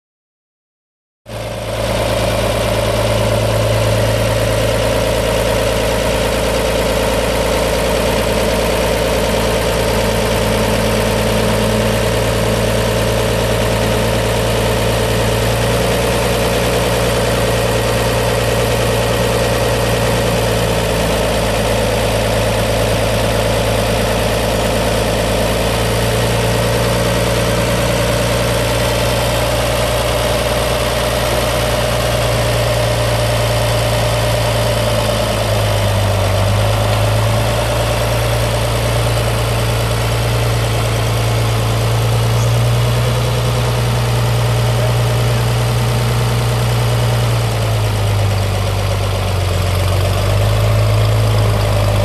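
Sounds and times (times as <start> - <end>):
tractor engine running: 1.3 - 52.0.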